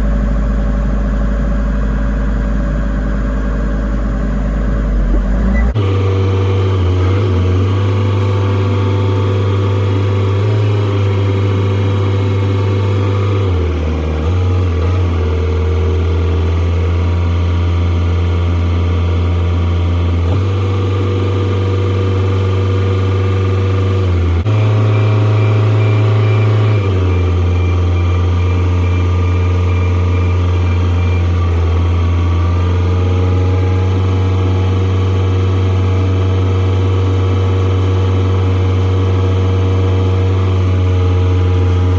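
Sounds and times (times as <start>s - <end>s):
machine engine running: 0.0s - 41.9s.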